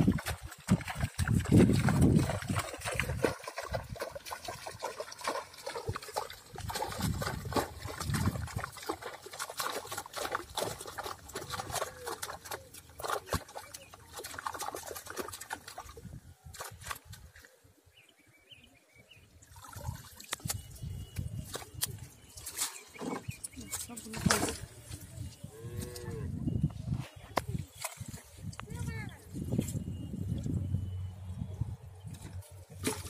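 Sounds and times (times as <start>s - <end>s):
water splashing and trickling: 0.0s - 18.0s, 19.1s - 26.7s, 27.3s - 33.0s.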